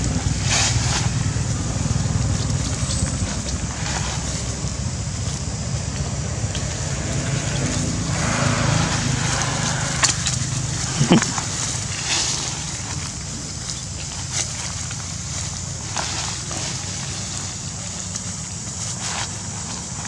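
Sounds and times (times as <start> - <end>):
dry leaves rustling: 0.0 - 20.0
wind rumble on microphone: 0.0 - 20.0.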